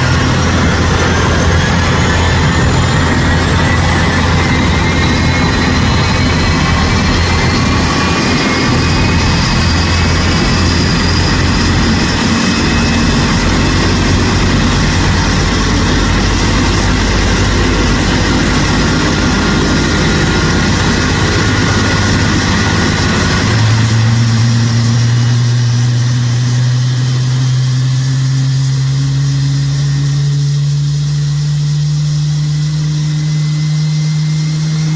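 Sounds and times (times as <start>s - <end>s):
jet engine starting up: 0.0s - 34.9s
strong low hum: 0.0s - 34.9s.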